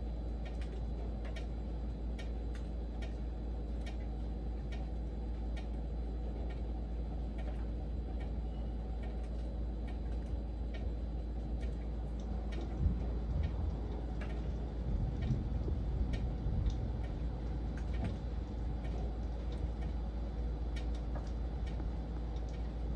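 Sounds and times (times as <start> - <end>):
raindrop ticks: 0.0 - 22.9.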